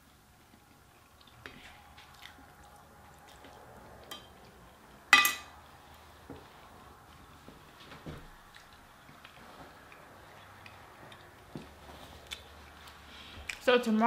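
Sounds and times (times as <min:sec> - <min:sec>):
faint eating sounds: 0:00.0 - 0:14.0.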